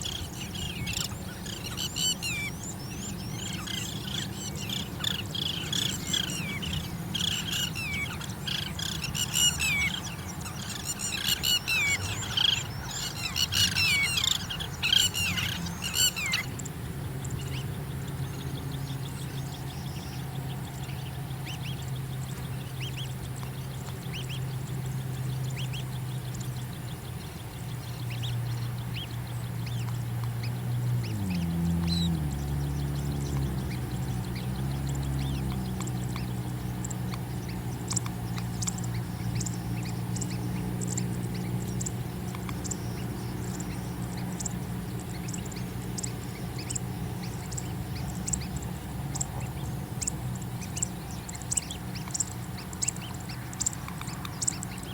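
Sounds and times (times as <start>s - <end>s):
bird chirping calls: 0.0s - 54.9s
steady low hum: 0.0s - 54.9s.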